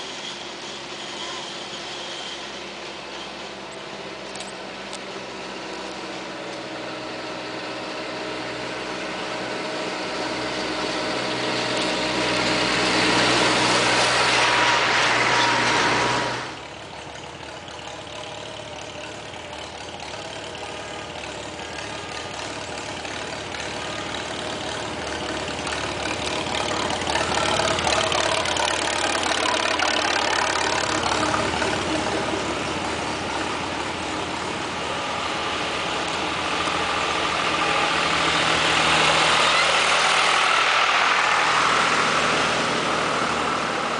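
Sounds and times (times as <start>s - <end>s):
tractor engines driving past: 0.0s - 43.9s.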